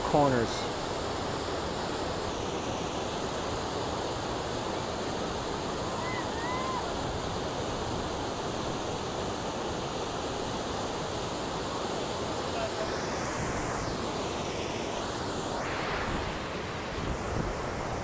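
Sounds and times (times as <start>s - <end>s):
whitewater rapids rushing: 0.0s - 18.0s.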